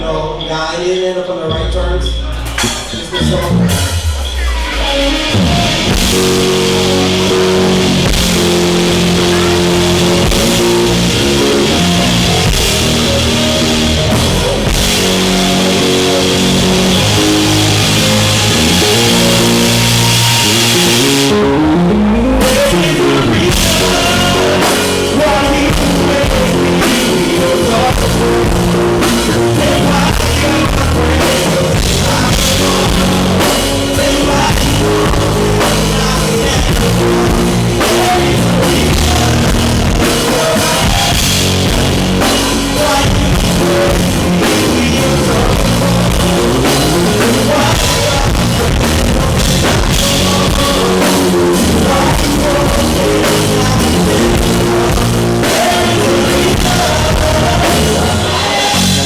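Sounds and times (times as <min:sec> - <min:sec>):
live band playing loudly: 0:01.2 - 0:59.0.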